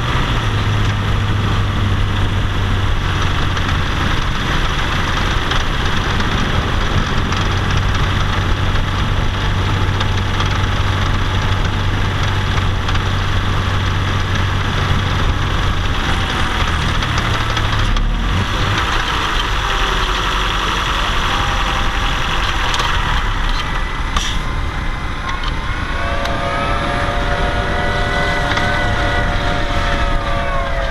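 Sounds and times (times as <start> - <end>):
car engine running under load: 0.0 - 30.9
road and wind noise: 0.0 - 30.9.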